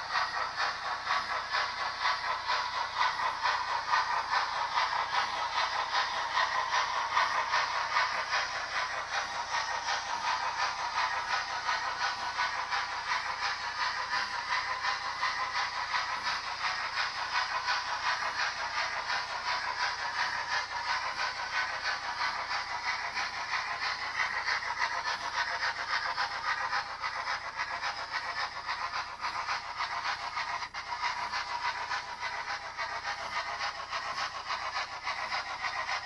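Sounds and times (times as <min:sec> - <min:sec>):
model train steam chuffs and hiss: 0:00.0 - 0:36.0.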